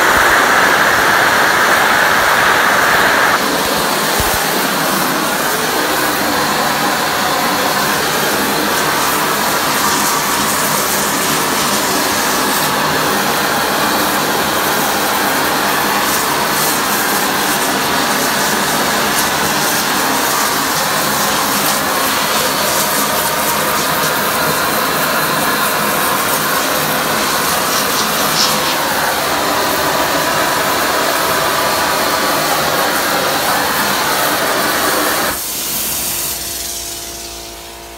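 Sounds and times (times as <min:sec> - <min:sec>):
torch hissing rush: 0:00.0 - 0:37.0
steam venting: 0:00.0 - 0:37.8.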